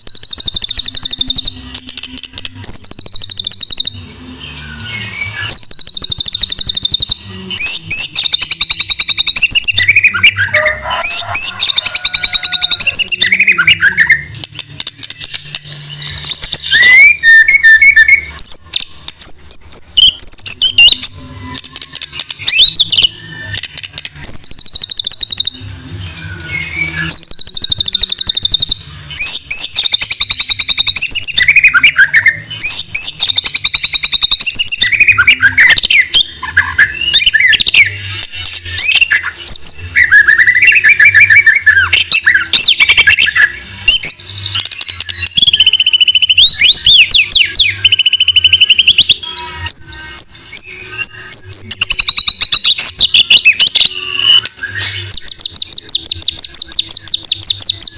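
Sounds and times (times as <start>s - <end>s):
songbird singing whistled phrases: 0.0s - 57.9s.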